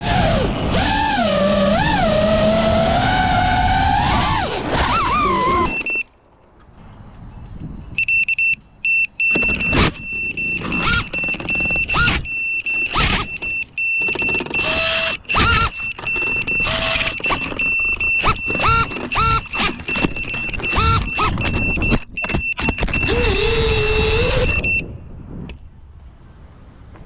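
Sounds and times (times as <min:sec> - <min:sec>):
drone motors whining: 0:00.0 - 0:06.2, 0:08.0 - 0:24.9.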